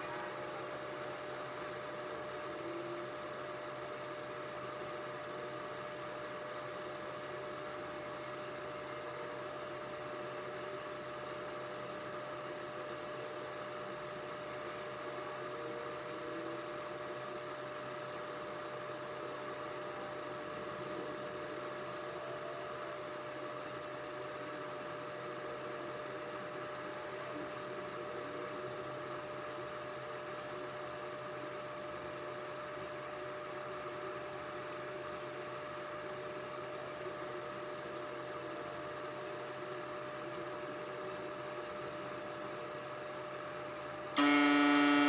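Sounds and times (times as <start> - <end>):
steady hum with hiss: 0.0 - 45.0.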